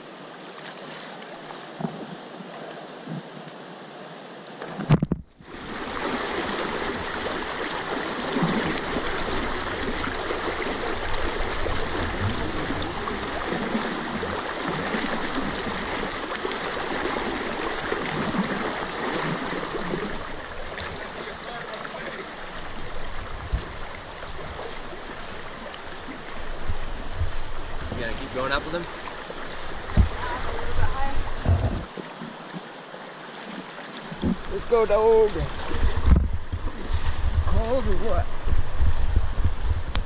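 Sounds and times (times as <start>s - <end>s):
river rushing over rocks: 5.4s - 39.9s.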